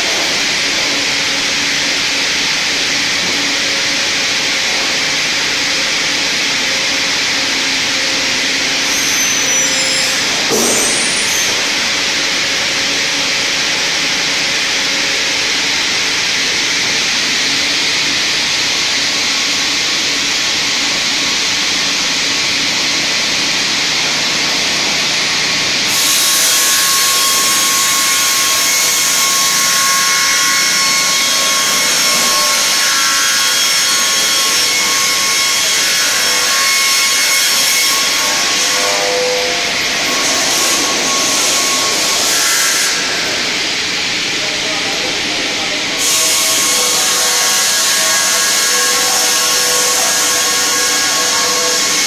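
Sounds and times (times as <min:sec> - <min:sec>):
circular sawmill sawing log: 0:00.0 - 0:52.0
steady saw whine: 0:00.0 - 0:52.0.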